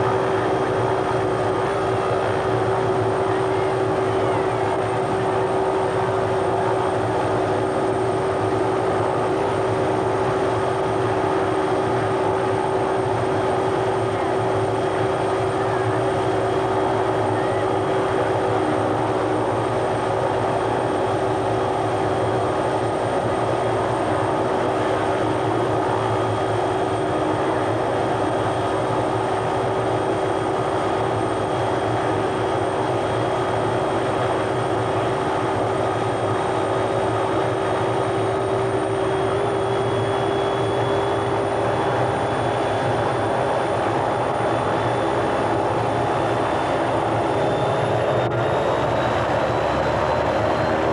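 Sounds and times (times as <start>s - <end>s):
helicopter engine and rotor idling: 0.0s - 50.9s.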